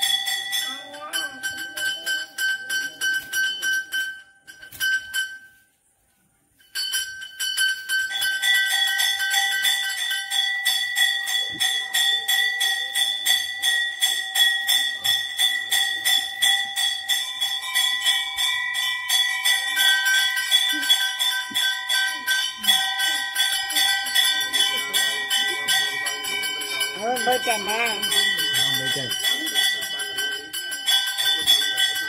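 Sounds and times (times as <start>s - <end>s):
bell ringing rapidly: 0.0s - 5.5s, 6.6s - 32.0s.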